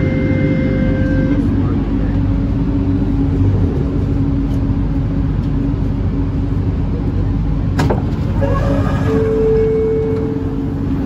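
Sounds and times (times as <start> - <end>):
low tone from onboard equipment: 0.0 - 11.0
train humming and hissing: 0.0 - 11.0.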